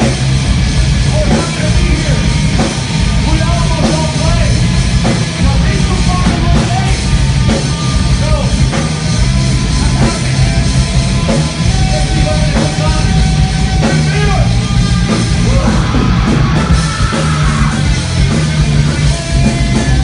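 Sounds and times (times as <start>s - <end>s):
heavy metal band playing: 0.0s - 20.0s.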